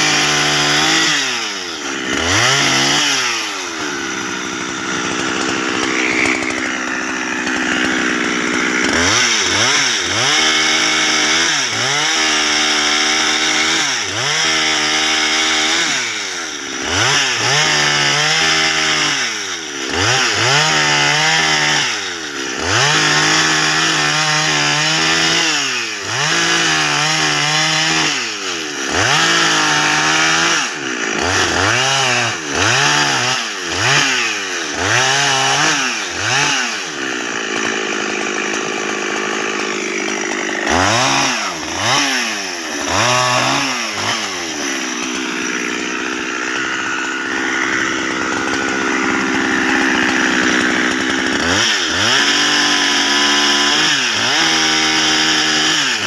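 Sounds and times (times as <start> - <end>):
chainsaw revving and cutting wood: 0.0 - 56.0.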